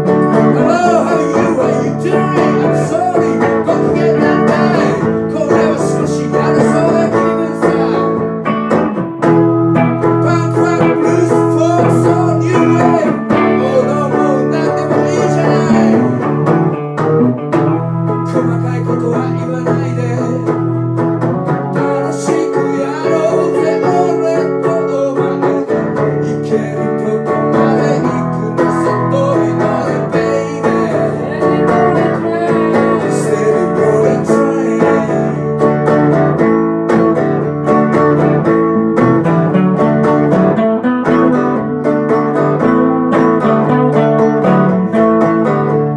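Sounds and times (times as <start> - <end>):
blues guitar strumming and picking: 0.0 - 45.9.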